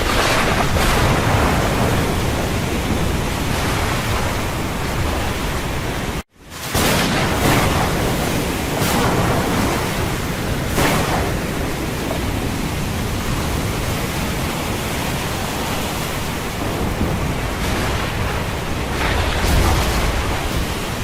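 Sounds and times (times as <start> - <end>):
wind buffeting microphone: 0.0 - 6.2, 6.8 - 21.0
heavy sea waves: 0.0 - 21.0
storm wind rushing: 0.0 - 21.0.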